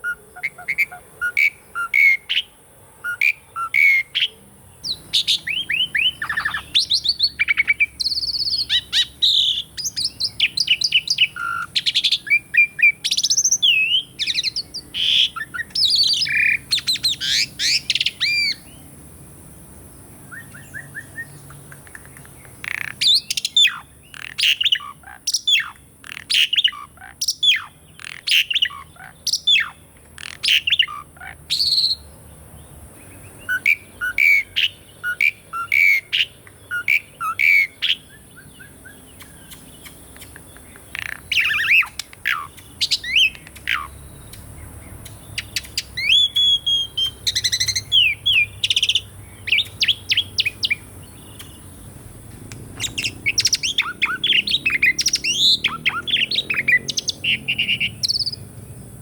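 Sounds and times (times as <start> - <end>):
starling whistling song: 3.1 - 18.8, 20.3 - 32.1, 33.4 - 51.8, 52.8 - 58.5.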